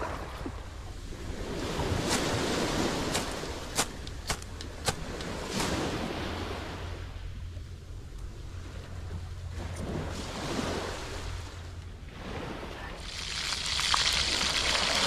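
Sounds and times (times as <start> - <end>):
surf washing on shore: 0.0 - 7.2, 8.6 - 15.0.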